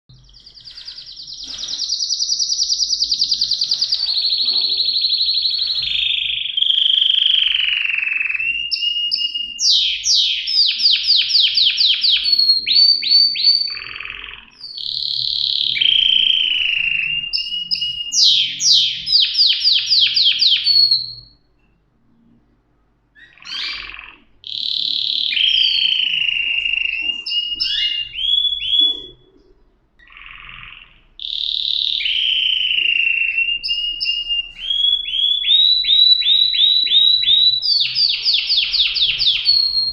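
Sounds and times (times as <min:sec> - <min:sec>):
canary singing: 0:00.1 - 0:22.3, 0:23.1 - 0:39.9.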